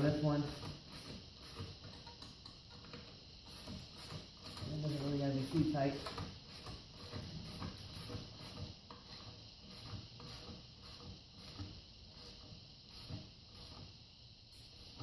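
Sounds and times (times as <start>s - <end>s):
ratchet wrench clicking: 0.0s - 13.9s, 14.5s - 15.0s.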